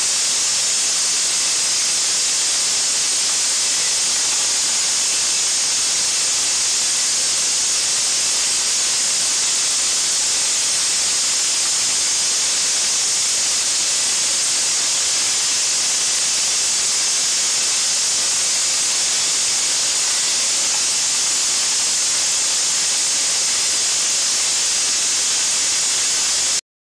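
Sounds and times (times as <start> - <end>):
bowl feeder hissing: 0.0 - 26.6.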